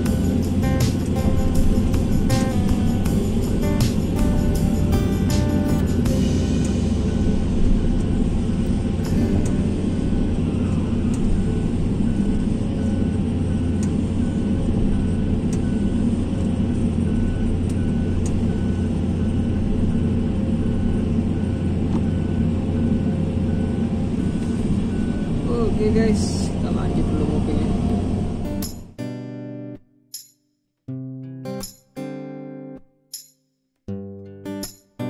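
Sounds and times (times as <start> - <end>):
travel alarm beeping: 0.0 - 28.8
excavator diesel engine running: 0.0 - 29.0.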